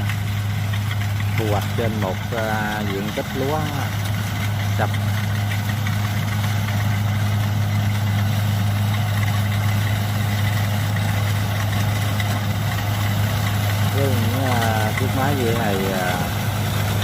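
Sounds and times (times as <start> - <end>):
combine harvester engine running: 0.0 - 17.0.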